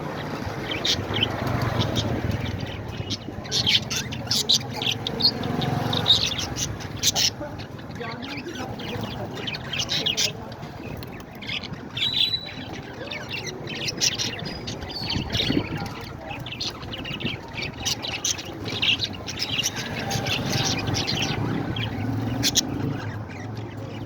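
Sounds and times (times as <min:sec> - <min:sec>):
parrots chirping and squawking: 0:00.0 - 0:24.0.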